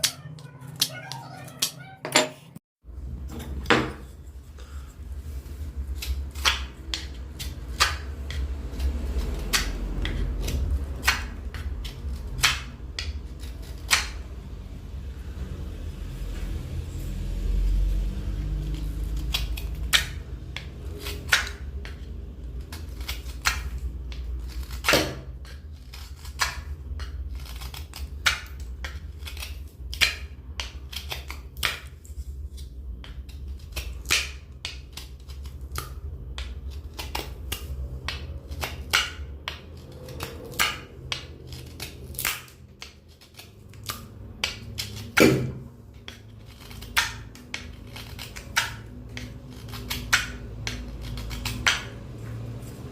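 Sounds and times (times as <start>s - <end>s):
hand tools carving wood: 3.3s - 14.2s, 17.2s - 52.9s.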